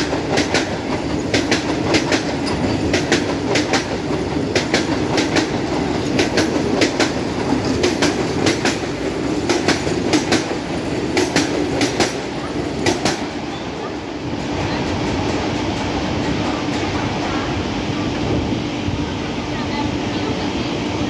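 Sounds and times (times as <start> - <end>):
train wheels clicking over rail joints: 0.0 - 17.4
train rolling rumble: 0.0 - 21.0.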